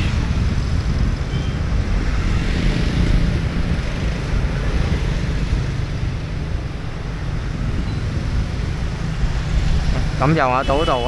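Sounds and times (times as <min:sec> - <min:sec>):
motorbikes passing: 0:00.0 - 0:11.0
wind rumbling on microphone: 0:00.0 - 0:11.0.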